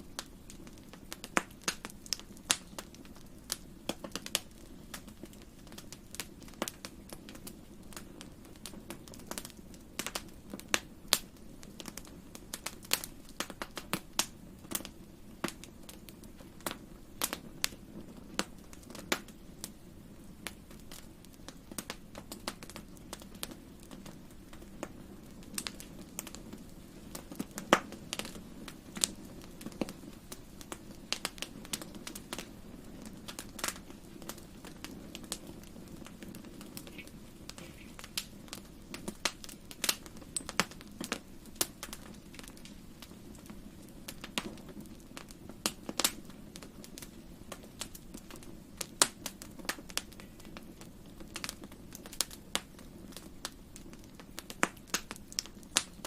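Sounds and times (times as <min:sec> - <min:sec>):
low rumble of fire burning: 0:00.0 - 0:56.0
wood fire crackling and popping: 0:00.0 - 0:56.0.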